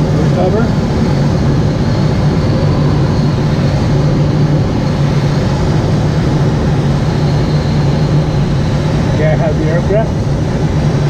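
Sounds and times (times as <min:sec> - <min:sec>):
low hum: 0:00.0 - 0:11.0
rush of air in cockpit: 0:00.0 - 0:11.0.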